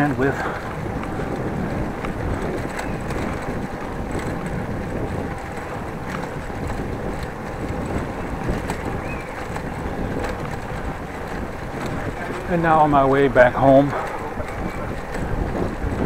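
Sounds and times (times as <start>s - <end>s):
small rattles and clicks: 0.0s - 16.0s
tyres rumbling over brick paving: 0.0s - 16.0s
wind noise on microphone: 0.0s - 16.0s.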